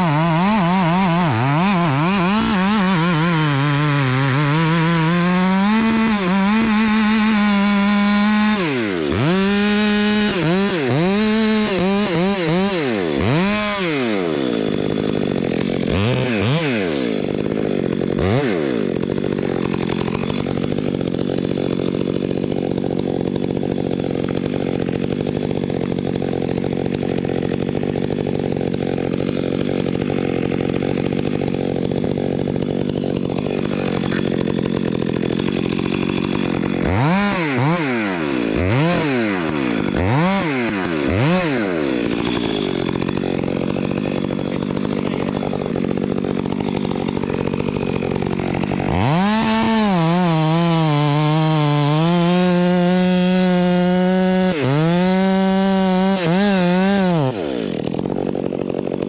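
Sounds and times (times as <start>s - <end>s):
chainsaw engine revving: 0.0s - 59.0s.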